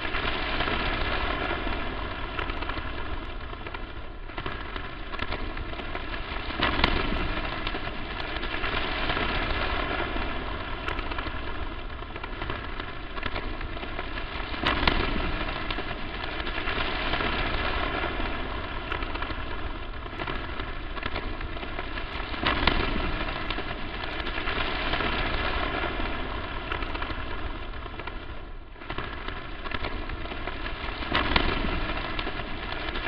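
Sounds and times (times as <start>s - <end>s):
crackling static: 0.0s - 33.0s.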